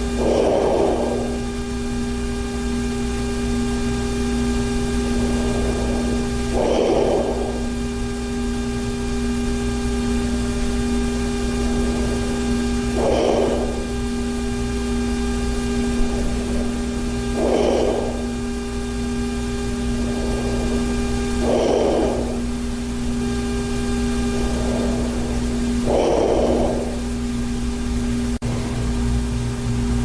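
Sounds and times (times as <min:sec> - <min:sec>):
person snoring: 0:00.0 - 0:27.6, 0:28.4 - 0:29.0
steady electrical hum: 0:00.0 - 0:30.0.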